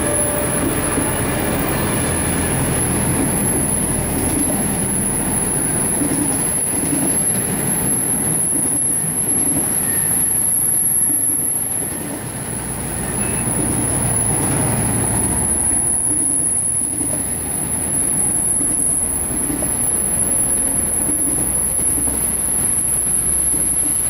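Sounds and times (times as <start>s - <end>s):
high-pitched wheel squeal: 0.0s - 24.0s
train wheels rumbling on rail: 0.0s - 24.0s.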